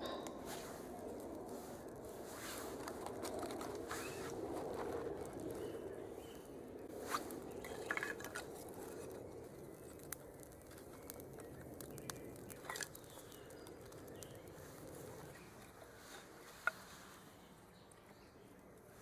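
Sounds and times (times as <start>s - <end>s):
campfire burning with crackles: 0.0s - 19.0s.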